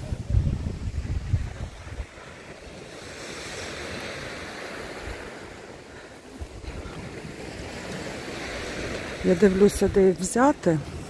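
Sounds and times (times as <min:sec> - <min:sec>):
sea surf washing on beach: 0:00.0 - 0:11.0
wind rumbling on microphone: 0:00.0 - 0:11.0.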